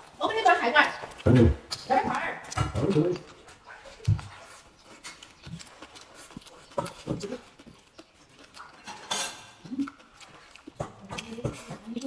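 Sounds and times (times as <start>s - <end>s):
mouth chewing sounds: 0.0s - 12.0s.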